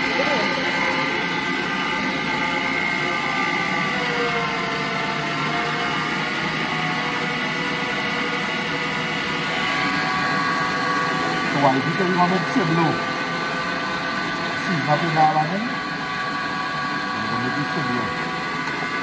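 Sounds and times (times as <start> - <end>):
electric meat grinder whining: 0.0 - 19.0.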